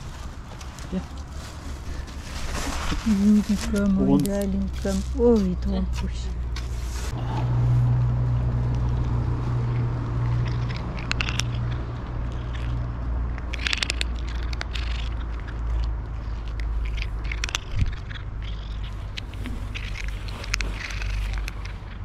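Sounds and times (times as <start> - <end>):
cat crunching dry kibble: 0.0 - 22.0
steady low rumble: 0.0 - 22.0.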